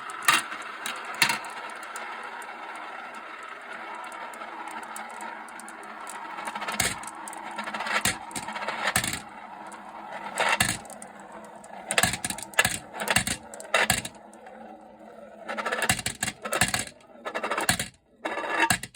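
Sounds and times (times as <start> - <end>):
marbles clacking: 0.0 - 18.9
marbles rolling in funnels: 0.0 - 18.9.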